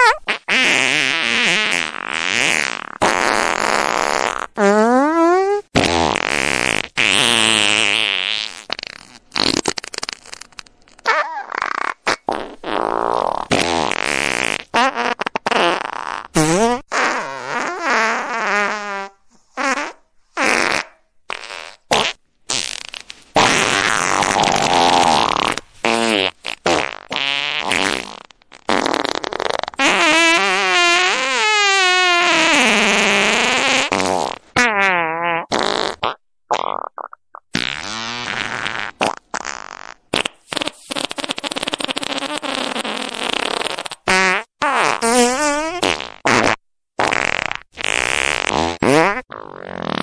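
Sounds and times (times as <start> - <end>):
fart sounds: 0.0 - 50.0.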